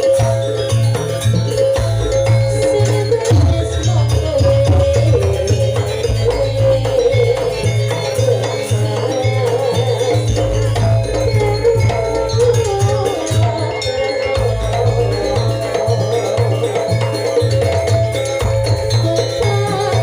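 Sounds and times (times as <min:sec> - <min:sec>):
rattling percussion: 0:00.0 - 0:20.0
steady drum beat: 0:00.0 - 0:20.0
wavering melody line: 0:00.0 - 0:20.0.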